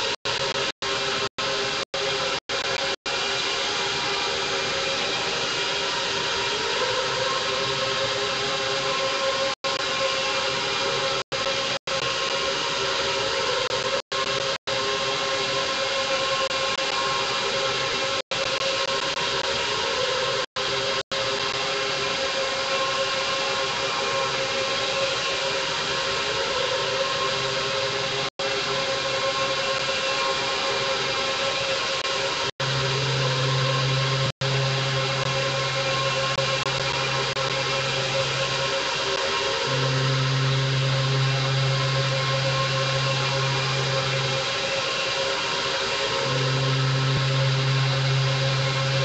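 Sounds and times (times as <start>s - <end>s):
electric guitar drone: 0.0s - 49.0s.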